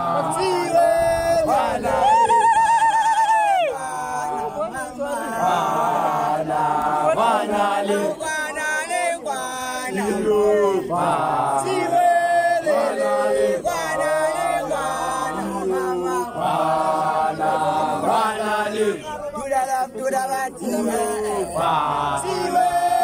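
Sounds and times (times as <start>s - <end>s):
young man chanting loudly: 0.0s - 2.0s, 3.6s - 23.0s
voices chanting along: 0.0s - 23.0s.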